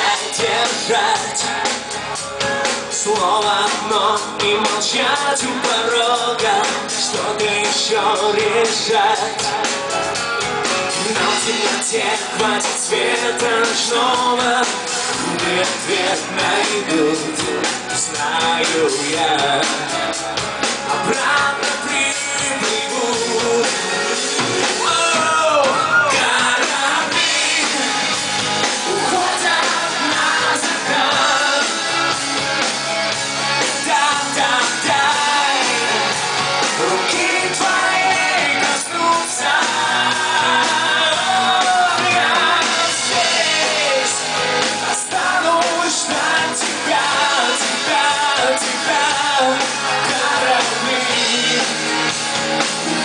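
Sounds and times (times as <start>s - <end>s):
man singing into a microphone: 0.0s - 32.7s, 33.5s - 52.1s
live rock band playing: 0.0s - 53.0s.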